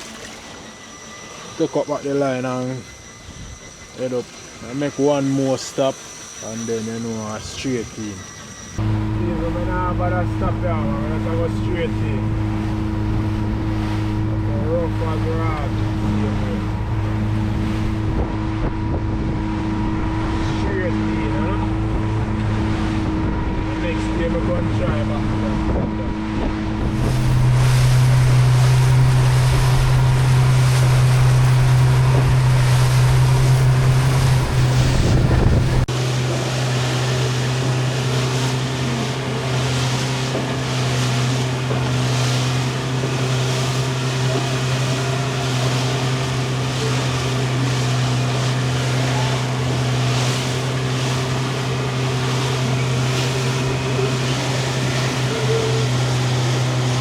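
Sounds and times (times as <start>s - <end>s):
hull slapping through water: 0.0s - 0.8s, 9.7s - 57.0s
boat motor running: 0.0s - 57.0s.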